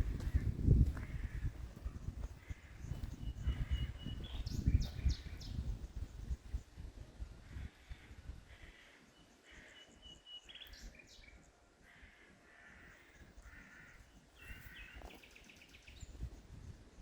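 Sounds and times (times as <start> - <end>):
birds calling: 0.0 - 6.2, 7.8 - 16.3
outdoor background noise: 0.0 - 17.0.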